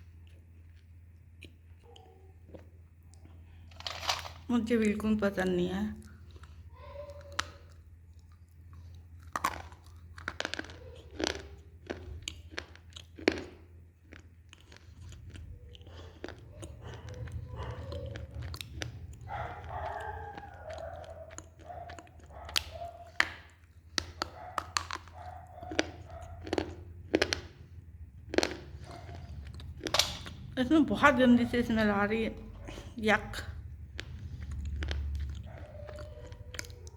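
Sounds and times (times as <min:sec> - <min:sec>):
crunchy chewing: 0:00.0 - 0:04.5, 0:06.0 - 0:30.6, 0:32.5 - 0:36.9
steady low hum: 0:00.0 - 0:36.9.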